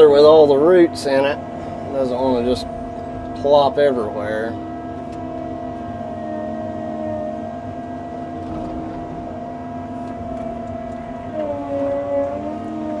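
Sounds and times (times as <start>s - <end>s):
excavator diesel engine rumbling: 0.0s - 13.0s
hydraulics whining: 0.0s - 13.0s.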